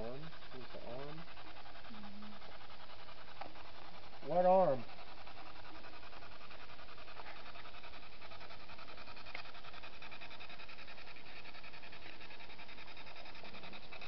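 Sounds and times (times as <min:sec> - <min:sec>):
night insects chirping: 0:00.0 - 0:14.0.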